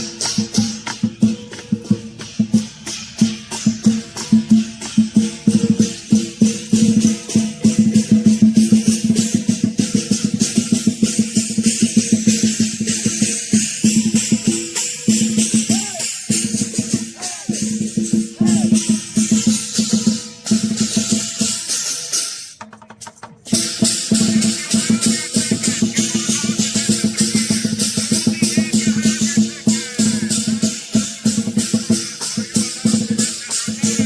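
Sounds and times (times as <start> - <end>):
cymbals: 0.0 - 22.6, 23.5 - 34.0
drum: 0.0 - 34.0.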